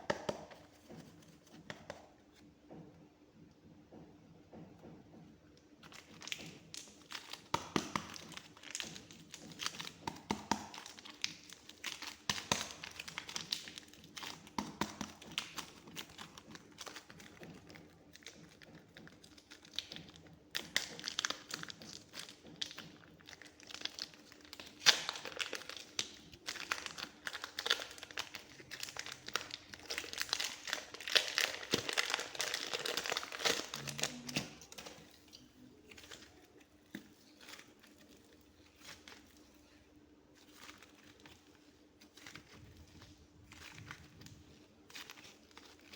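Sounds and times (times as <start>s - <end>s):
clay crackling and popping: 0.0s - 2.2s, 5.6s - 45.9s.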